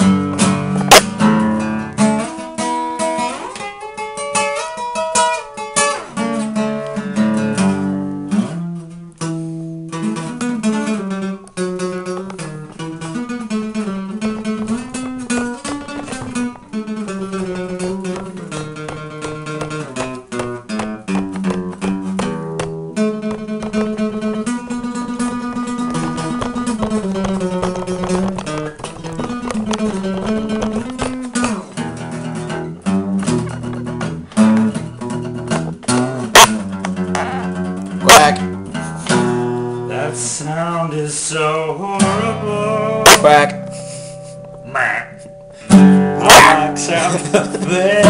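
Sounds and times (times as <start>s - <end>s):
acoustic guitar picking and strumming: 0.0s - 48.0s.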